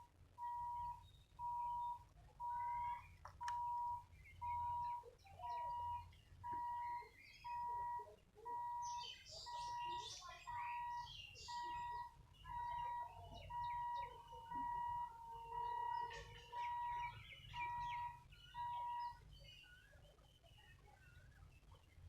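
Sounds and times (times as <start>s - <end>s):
level-crossing warning buzzer beeping: 0.0s - 19.4s
birds chirping: 0.4s - 22.0s.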